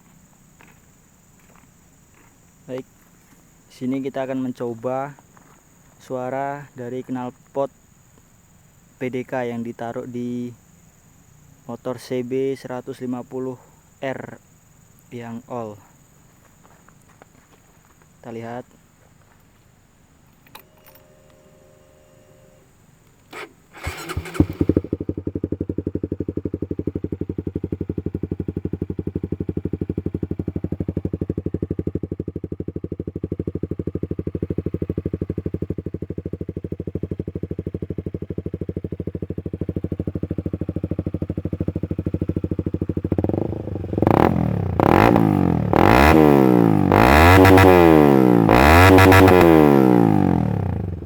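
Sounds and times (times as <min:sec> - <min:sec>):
motorcycle engine idling and revving: 0:00.0 - 0:51.0.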